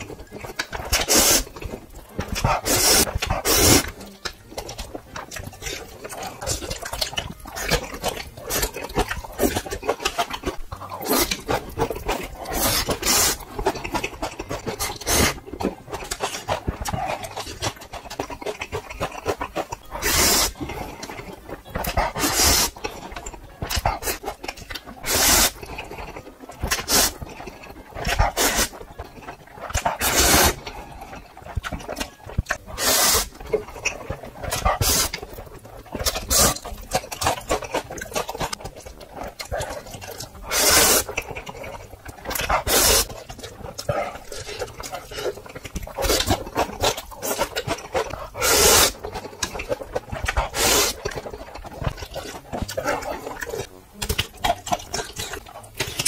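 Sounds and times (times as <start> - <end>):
chewing and mouth clicks: 0.0 - 56.0
person slurping noodles: 0.0 - 56.0.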